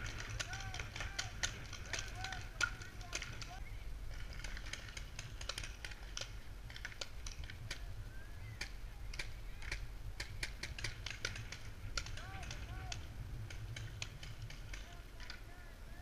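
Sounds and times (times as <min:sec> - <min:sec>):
paintball markers firing: 0:00.0 - 0:03.6, 0:04.2 - 0:07.9, 0:08.5 - 0:15.4.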